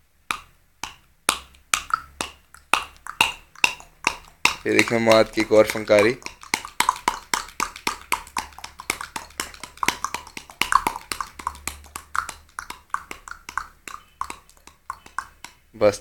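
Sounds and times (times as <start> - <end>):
mouth clicks imitating hoofbeats: 0.3 - 16.0.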